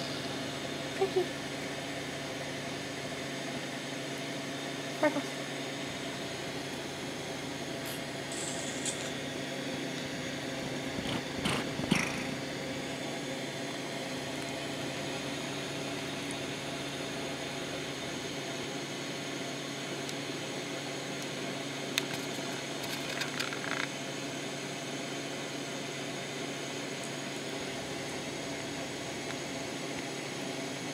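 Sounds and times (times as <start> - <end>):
fan hum and hiss: 0.0 - 30.9.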